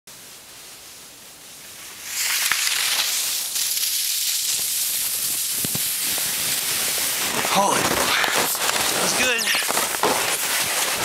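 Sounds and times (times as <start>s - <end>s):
sliding over packed snow: 0.3s - 11.0s.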